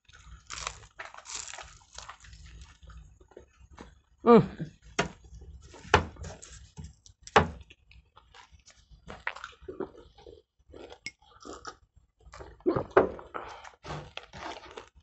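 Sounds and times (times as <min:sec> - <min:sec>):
people chewing pastries: 0:00.0 - 0:15.0.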